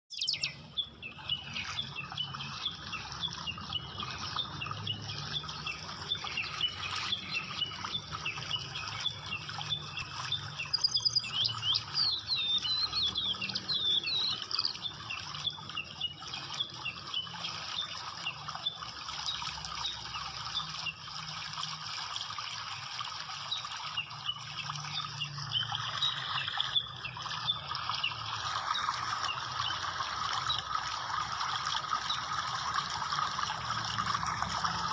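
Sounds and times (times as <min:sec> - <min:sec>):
birds chirping: 0:00.0 - 0:21.1, 0:23.4 - 0:34.0.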